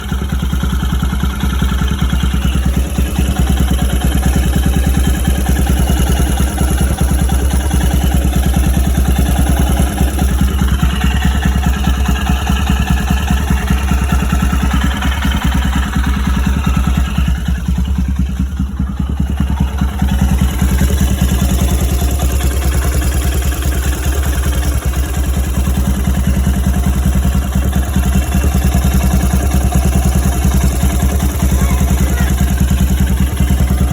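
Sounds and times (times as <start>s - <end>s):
motorcycle engine clattering: 0.0s - 33.9s.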